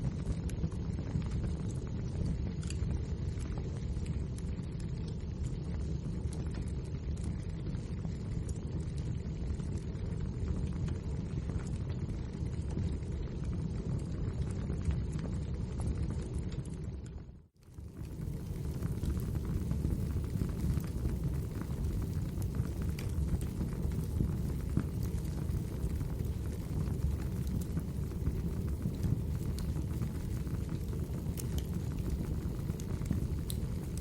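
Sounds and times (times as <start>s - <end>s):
wood fire crackling: 0.1s - 34.0s.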